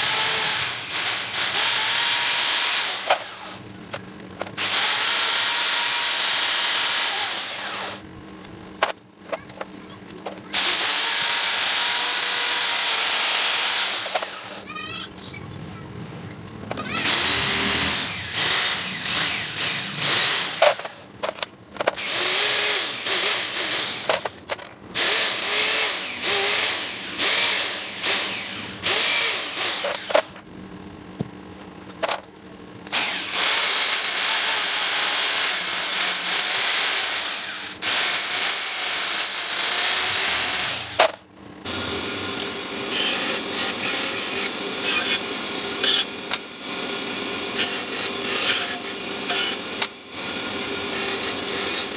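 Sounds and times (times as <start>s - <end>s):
power tool running harshly: 0.0s - 8.1s, 10.2s - 14.7s, 16.7s - 30.4s, 32.9s - 51.9s.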